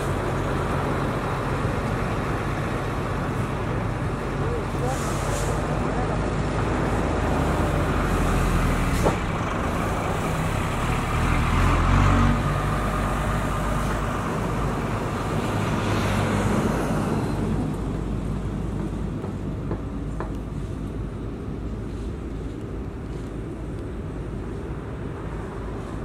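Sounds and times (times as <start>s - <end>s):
road roller engine rumble: 0.0s - 26.0s
trucks passing: 0.0s - 26.0s.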